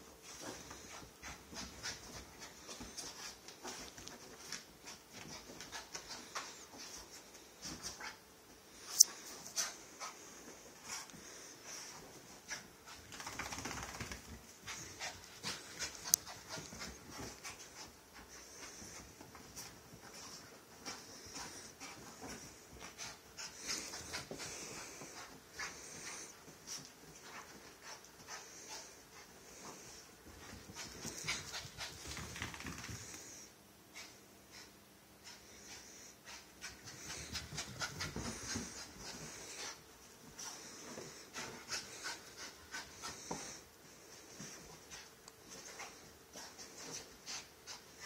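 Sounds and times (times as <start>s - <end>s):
small dog panting: 0.1s - 48.0s.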